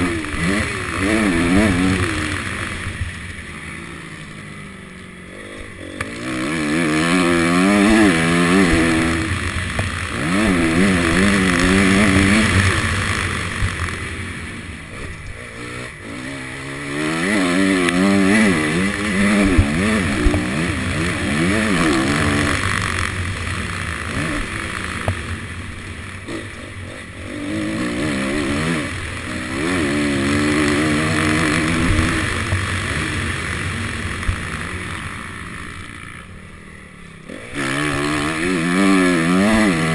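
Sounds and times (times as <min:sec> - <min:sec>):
motocross engine revving: 0:00.0 - 0:36.4, 0:37.1 - 0:39.9.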